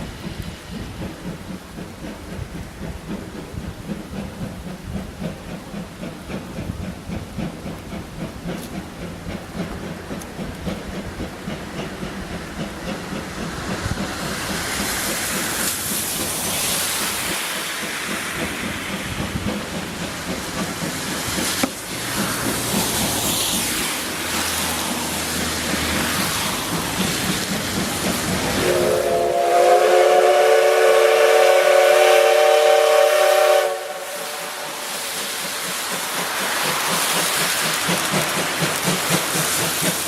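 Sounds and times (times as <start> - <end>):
steam hissing: 0.0 - 40.0
steam locomotive chuffing: 0.0 - 40.0.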